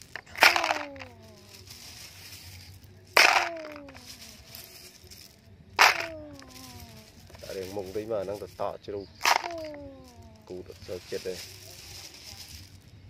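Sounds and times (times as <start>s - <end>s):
stones clattering into plastic: 0.0s - 8.6s, 9.2s - 12.9s.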